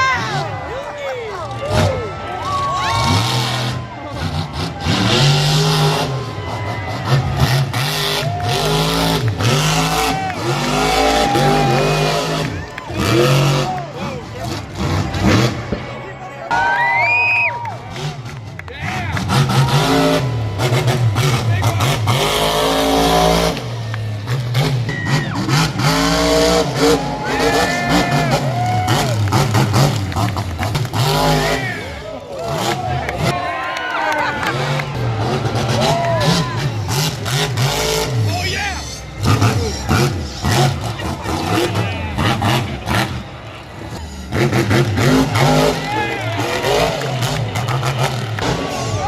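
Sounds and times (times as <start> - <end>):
arena crowd noise: 0.0 - 49.0
truck engine revving hard: 1.5 - 16.1, 17.6 - 49.0.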